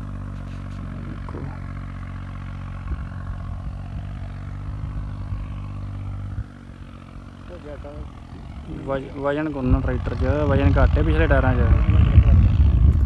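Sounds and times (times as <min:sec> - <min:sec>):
diesel tractor engine: 0:00.0 - 0:13.0.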